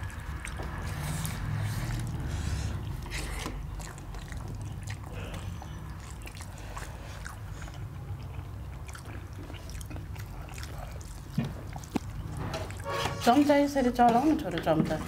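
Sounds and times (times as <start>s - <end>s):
chewing: 0.0s - 15.0s
wet clicks of fingers mixing food: 0.0s - 15.0s.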